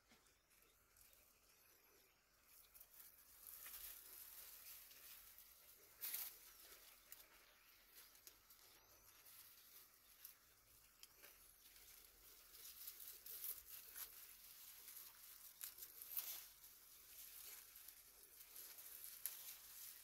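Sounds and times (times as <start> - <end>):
dry grass crackling and rustling: 0.4 - 20.0.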